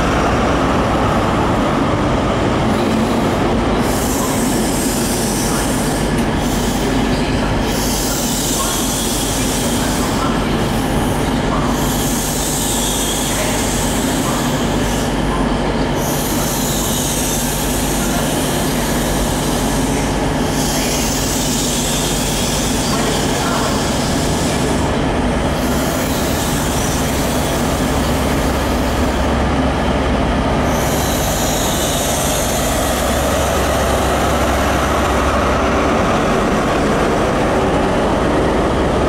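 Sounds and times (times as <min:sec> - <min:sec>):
train coaches rolling slowly: 0:00.0 - 0:39.0.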